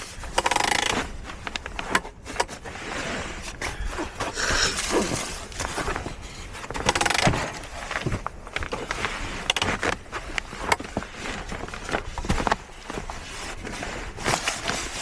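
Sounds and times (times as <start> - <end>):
handling rustling with clicks: 0.0 - 15.0.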